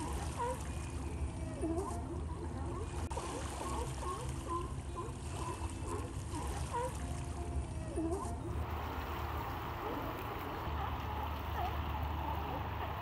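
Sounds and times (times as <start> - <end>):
sea lions calling: 0.0 - 13.0.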